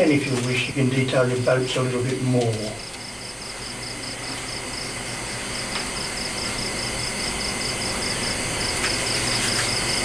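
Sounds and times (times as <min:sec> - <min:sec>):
cricket chirping: 0:00.0 - 0:10.0
steady hiss: 0:00.0 - 0:10.0.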